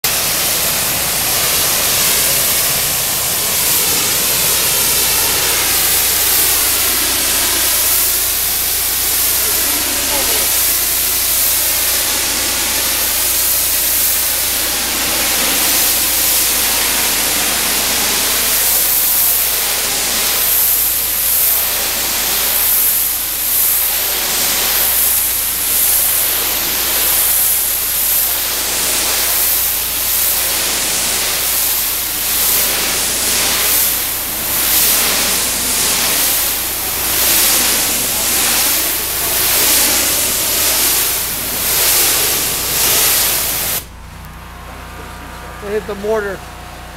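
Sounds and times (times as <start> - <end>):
pressure washer spraying brick: 0.0 - 46.9.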